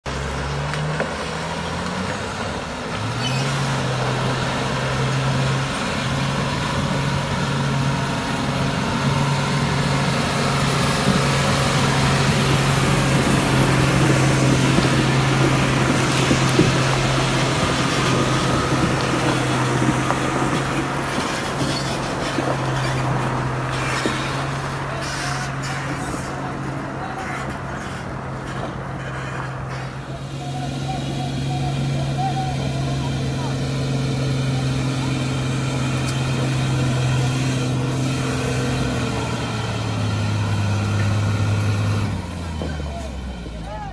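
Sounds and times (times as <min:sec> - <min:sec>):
truck diesel engine running: 0:00.1 - 0:43.9.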